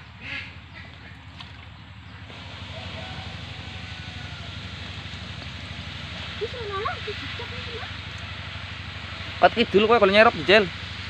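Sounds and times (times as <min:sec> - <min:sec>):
water sloshing and splashing: 0:00.0 - 0:11.0
low rumble: 0:00.6 - 0:11.0.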